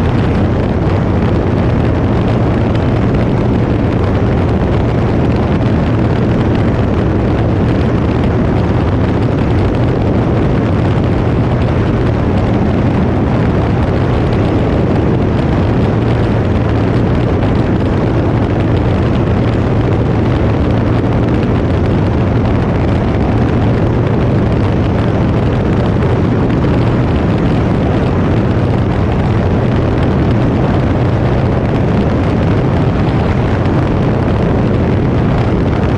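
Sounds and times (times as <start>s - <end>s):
aircraft engine droning: 0.0s - 35.9s.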